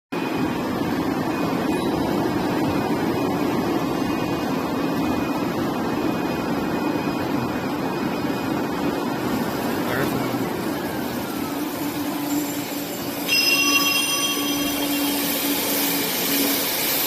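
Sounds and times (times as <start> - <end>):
faint high whine: 0.2 - 17.0.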